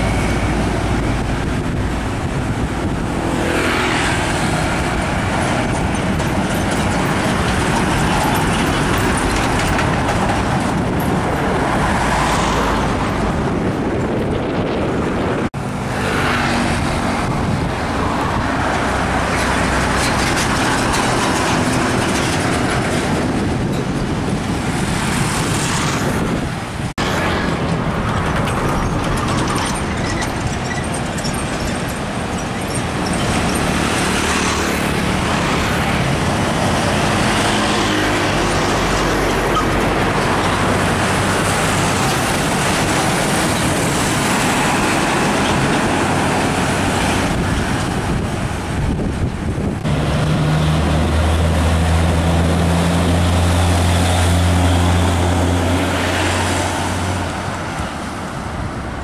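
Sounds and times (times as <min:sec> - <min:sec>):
diesel trucks passing: 0:00.0 - 0:59.0
heavy road traffic: 0:00.0 - 0:59.0.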